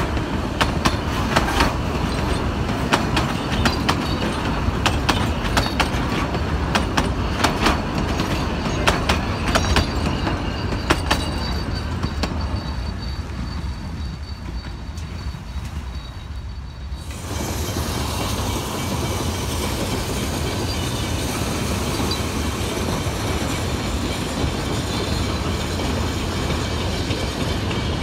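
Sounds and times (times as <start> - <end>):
train rumble: 0.0 - 28.0
train wheels clicking over rail joints: 0.0 - 28.0.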